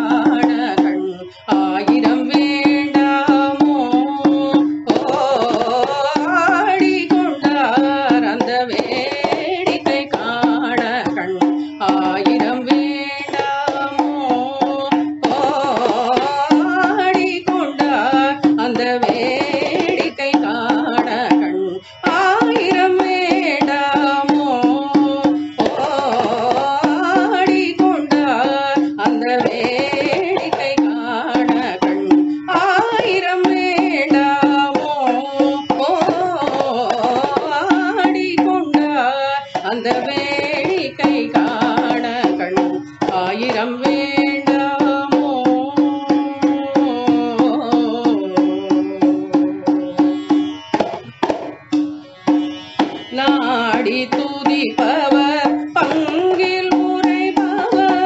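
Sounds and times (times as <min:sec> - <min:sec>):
person singing ornamented melody: 0:00.0 - 0:50.5, 0:53.1 - 0:58.0
hand drum: 0:00.0 - 0:58.0.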